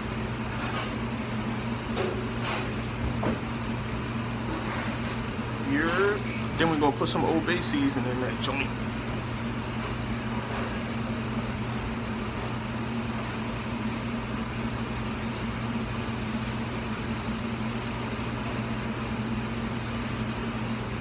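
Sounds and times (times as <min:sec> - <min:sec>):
steady low hum with hiss: 0:00.0 - 0:21.0.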